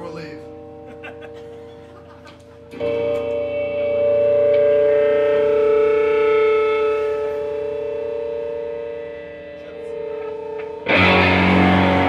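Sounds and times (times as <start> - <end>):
distorted electric guitar drone: 0.0 - 12.0.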